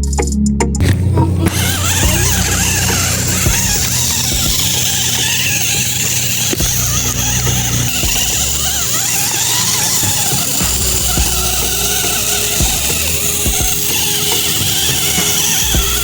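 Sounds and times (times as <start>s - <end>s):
toy electric motor whining: 0.8s - 16.0s.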